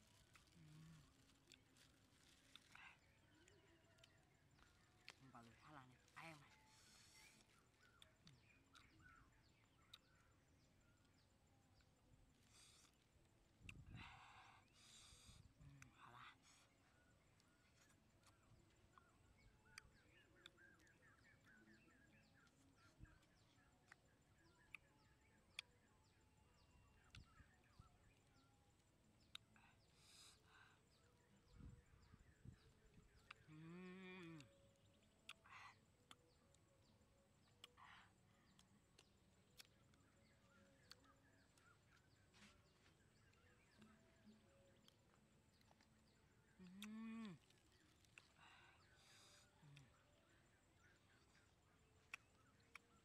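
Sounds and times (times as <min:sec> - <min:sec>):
soft clicks of peeling fruit: 0:00.0 - 0:26.2, 0:26.9 - 0:31.6, 0:32.4 - 0:53.0
faint rapid chirping: 0:00.0 - 0:53.0.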